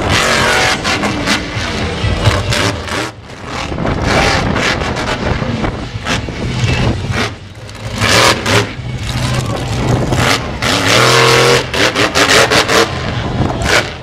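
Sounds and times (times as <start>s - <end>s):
truck engine running hard: 0.0s - 14.0s.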